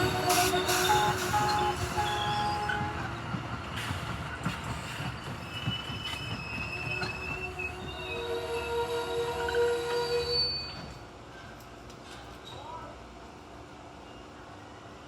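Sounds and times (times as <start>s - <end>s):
train wheels squealing: 0.0s - 12.9s, 14.0s - 14.6s
train rumble: 0.0s - 15.0s.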